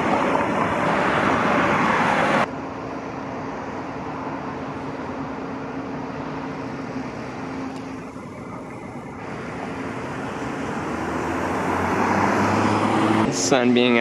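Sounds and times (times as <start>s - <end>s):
road traffic noise: 0.0s - 14.0s
vehicle approaching: 0.0s - 14.0s.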